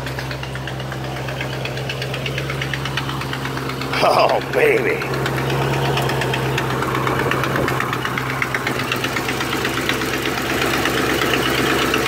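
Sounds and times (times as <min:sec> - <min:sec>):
rapid even ticking: 0:00.0 - 0:12.0
truck engine idling: 0:00.0 - 0:12.0.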